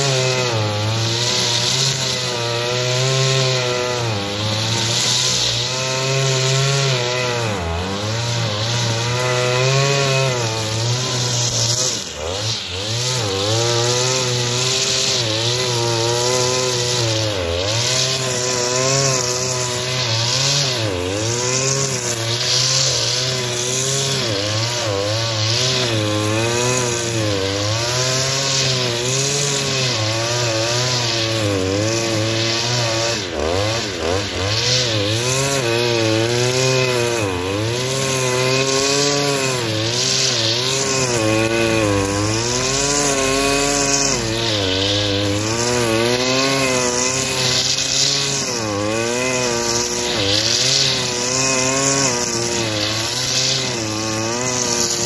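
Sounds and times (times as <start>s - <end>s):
brushcutter cutting grass: 0.0s - 55.0s.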